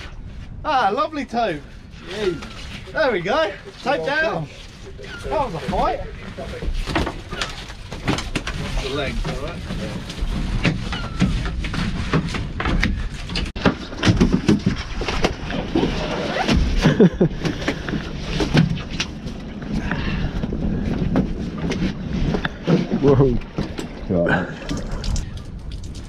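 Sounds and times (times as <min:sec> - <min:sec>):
low wind rumble: 0:00.0 - 0:26.0.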